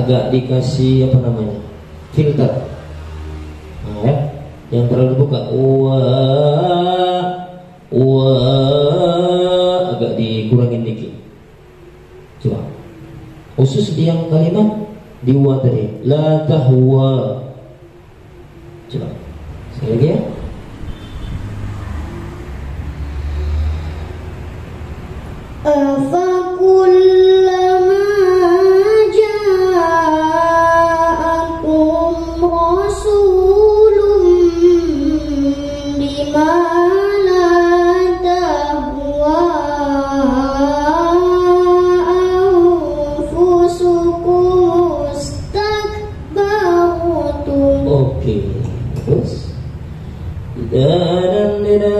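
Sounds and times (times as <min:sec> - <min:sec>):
girl reciting melodically: 0:00.0 - 0:20.8, 0:25.1 - 0:51.9.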